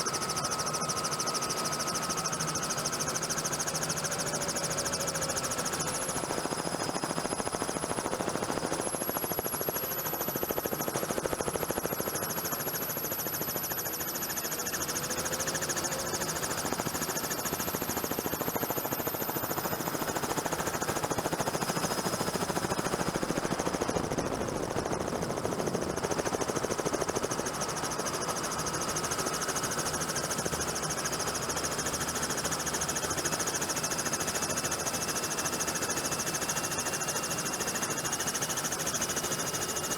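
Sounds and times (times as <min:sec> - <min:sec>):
helicopter rotor beating: 0:00.1 - 0:39.9.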